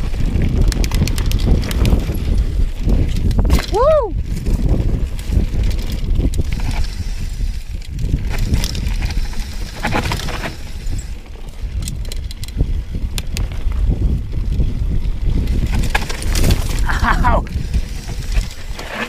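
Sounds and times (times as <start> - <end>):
bike clicks and rattles: 0.0 - 19.0
tyres rumbling on dirt trail: 0.0 - 19.0
wind buffeting microphone: 0.0 - 19.0.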